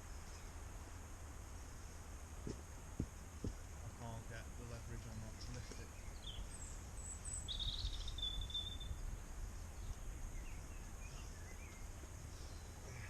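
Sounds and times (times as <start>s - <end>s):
small birds chirping: 0.0s - 1.0s, 1.6s - 13.0s
low steady rumble: 0.0s - 13.0s.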